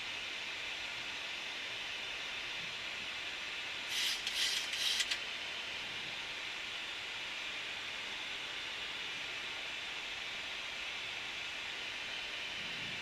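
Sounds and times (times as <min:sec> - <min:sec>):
cockpit airflow hiss: 0:00.0 - 0:13.0.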